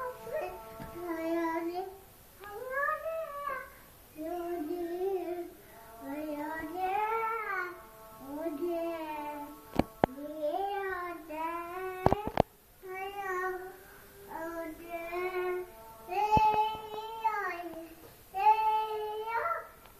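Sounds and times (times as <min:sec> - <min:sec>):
child singing: 0:00.0 - 0:19.8.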